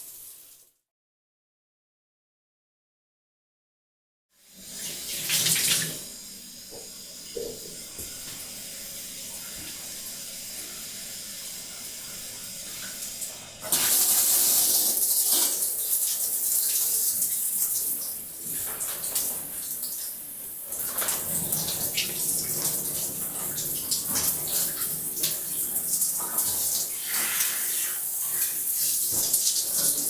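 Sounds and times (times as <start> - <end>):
water running into bathtub: 4.5 - 30.0.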